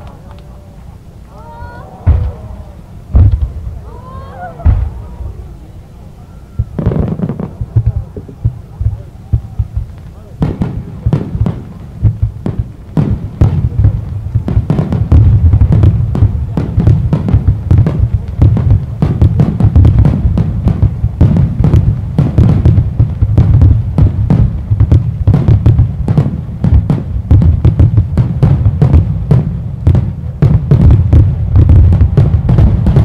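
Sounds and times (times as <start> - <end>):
fireworks booming: 0.0 - 33.0
fireworks crackle: 0.0 - 33.0.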